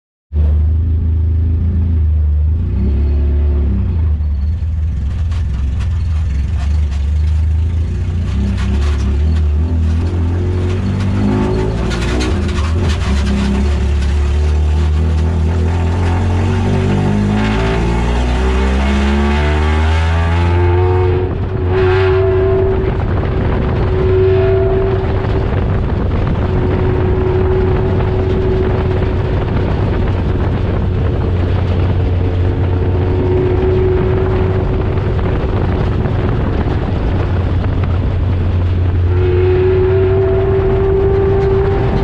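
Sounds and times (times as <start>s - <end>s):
race car engine revving: 0.4s - 42.0s.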